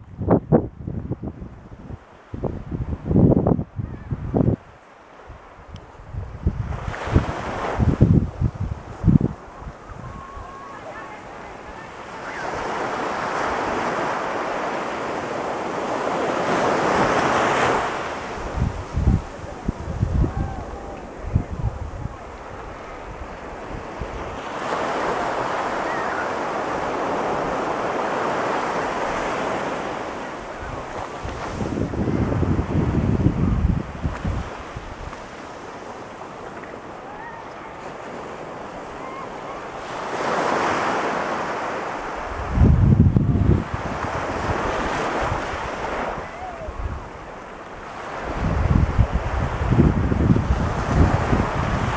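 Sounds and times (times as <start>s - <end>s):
ocean surf breaking: 1.8s - 51.9s.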